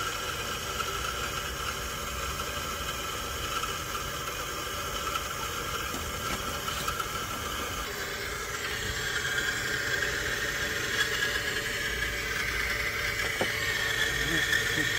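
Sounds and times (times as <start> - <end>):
machine whirring with hiss: 0.0 - 14.9.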